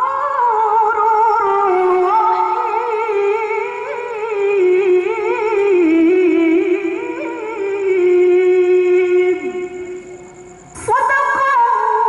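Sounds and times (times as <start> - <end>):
girl reciting melodically: 0.0 - 10.2, 10.8 - 12.0.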